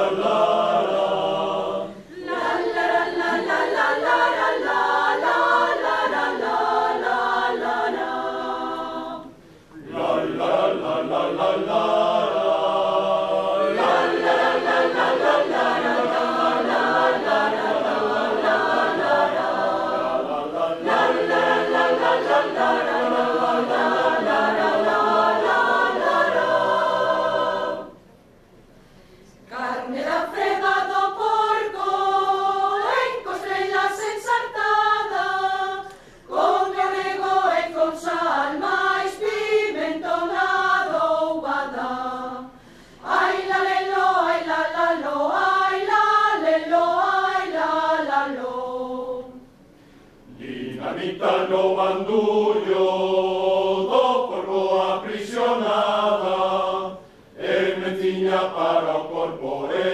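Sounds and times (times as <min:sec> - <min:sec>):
mixed choir singing: 0:00.0 - 0:28.0, 0:29.5 - 0:49.6, 0:50.3 - 0:59.9.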